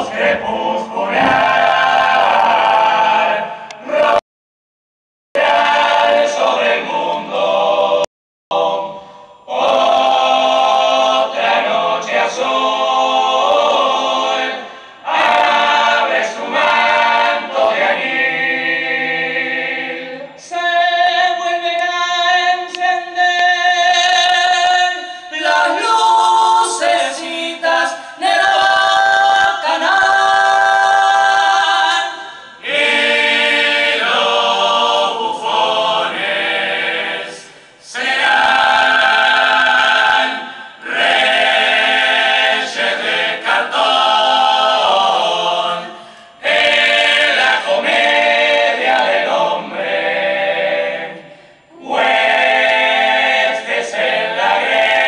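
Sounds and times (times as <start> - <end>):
choir singing a cappella: 0.0 - 4.2, 5.4 - 55.0.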